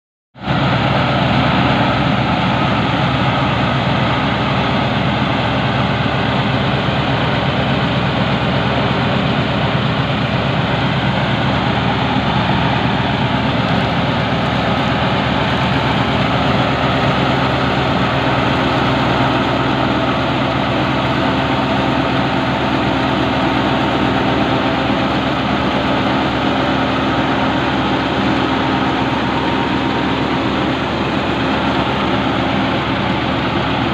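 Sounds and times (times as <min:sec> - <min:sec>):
tractor diesel engine running: 0:00.4 - 0:33.9
thresher machinery running: 0:00.5 - 0:33.9.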